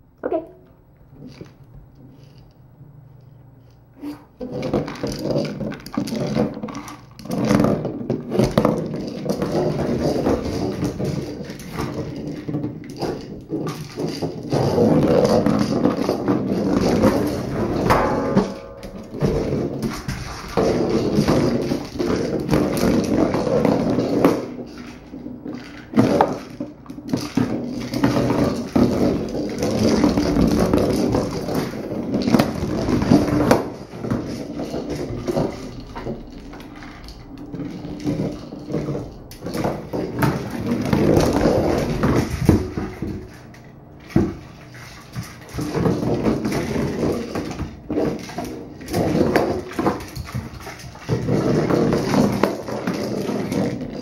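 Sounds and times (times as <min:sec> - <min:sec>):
plastic ball rolling on vinyl floor: 0:00.0 - 0:54.0
treats rattling inside ball: 0:01.0 - 0:54.0.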